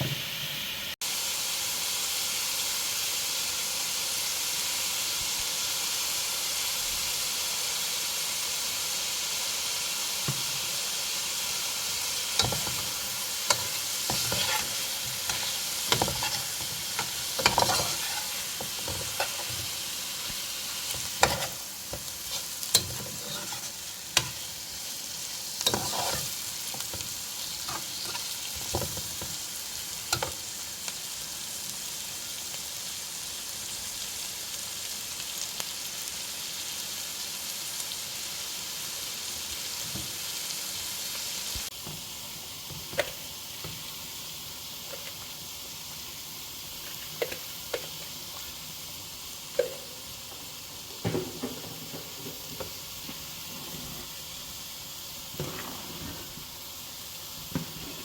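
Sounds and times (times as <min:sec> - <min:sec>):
food sizzling in a pot: 0:00.0 - 0:58.0.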